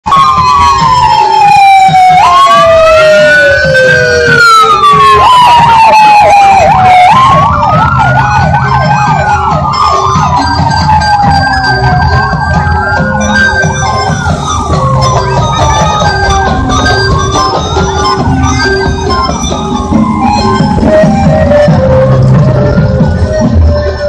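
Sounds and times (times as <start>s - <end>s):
fast warbling siren yelp: 0.1s - 24.0s
police sirens wailing: 0.1s - 24.0s
low traffic rumble: 0.3s - 24.0s.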